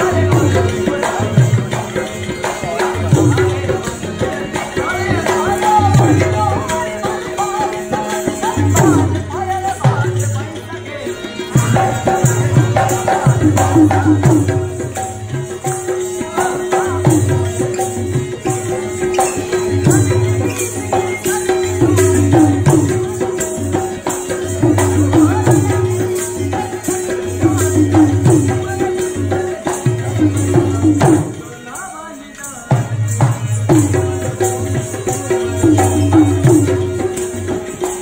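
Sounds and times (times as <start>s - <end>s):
hand drums: 0.0s - 38.0s
jingling percussion: 0.0s - 38.0s.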